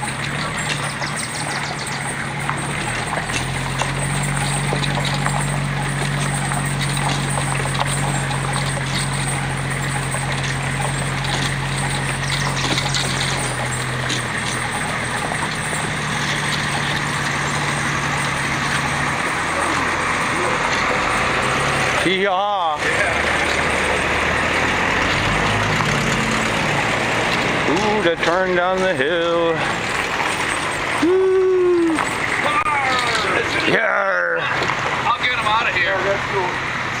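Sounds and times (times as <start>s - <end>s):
trailer knocks and rattles: 0.0s - 31.1s, 31.7s - 33.8s, 34.5s - 37.0s
vehicle engine running: 0.0s - 37.0s.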